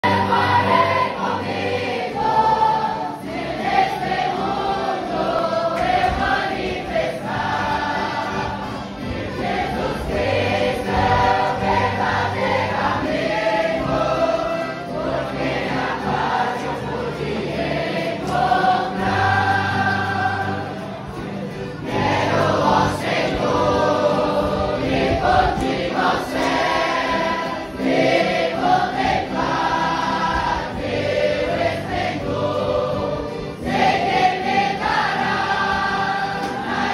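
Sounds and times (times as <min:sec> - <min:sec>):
choir singing a hymn: 0:00.0 - 0:36.9.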